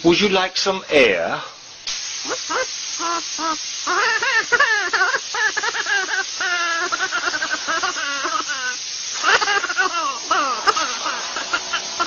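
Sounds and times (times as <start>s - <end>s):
hiss of blowing air: 1.3s - 12.0s.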